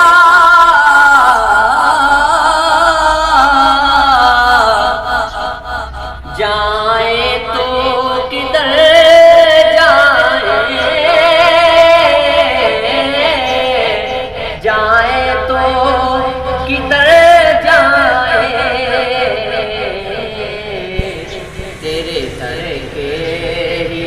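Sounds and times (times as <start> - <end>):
man singing: 0.0 - 24.0.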